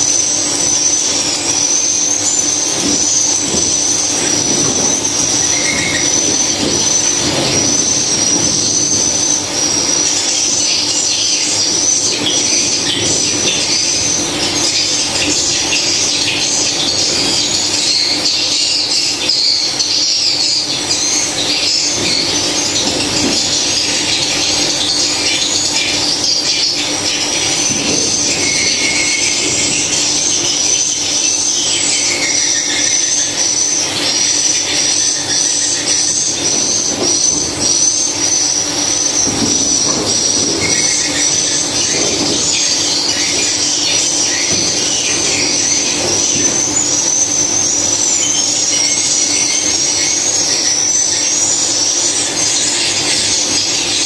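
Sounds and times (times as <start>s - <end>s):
swiftlets chirping: 0.0s - 54.0s.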